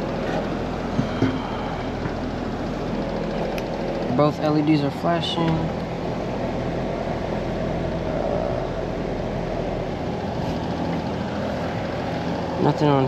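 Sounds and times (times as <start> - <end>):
condenser fan rushing air: 0.0 - 13.0.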